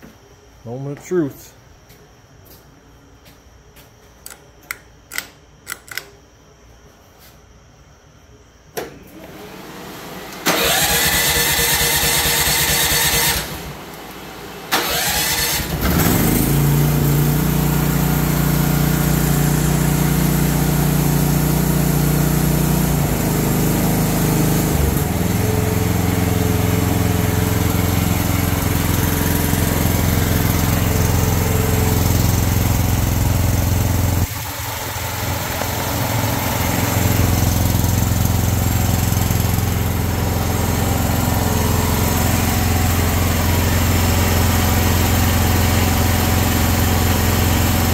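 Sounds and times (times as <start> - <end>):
gasoline engine starting and running: 8.8 - 47.9.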